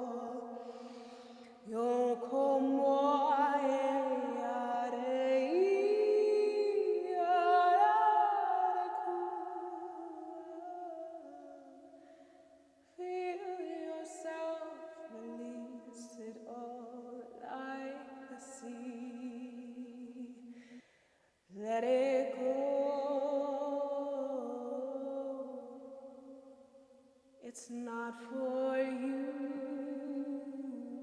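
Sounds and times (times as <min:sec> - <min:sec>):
woman singing long held tones: 0:00.0 - 0:12.1, 0:12.9 - 0:20.5, 0:21.5 - 0:26.4, 0:27.4 - 0:31.0.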